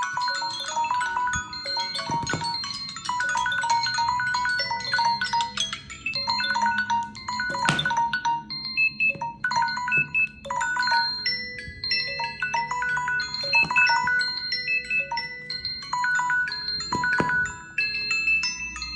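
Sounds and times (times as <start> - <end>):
phone alarm melodies overlapping: 0.0 - 18.9.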